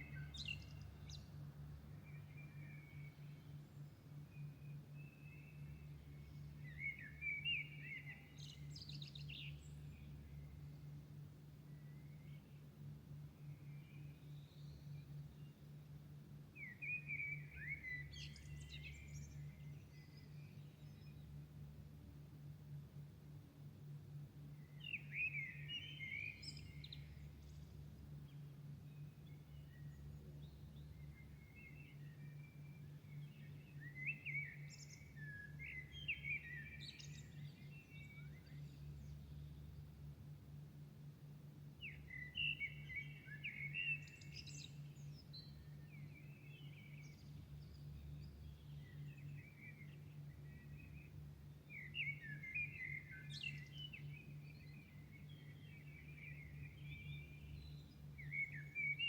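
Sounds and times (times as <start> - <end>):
songbirds chirping and warbling: 0.0 - 22.5, 24.0 - 59.0.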